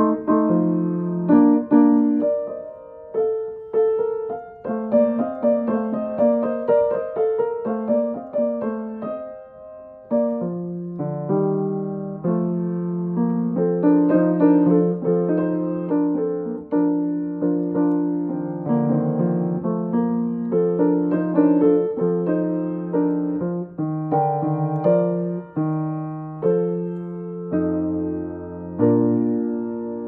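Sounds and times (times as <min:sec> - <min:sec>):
piano playing: 0:00.0 - 0:30.0.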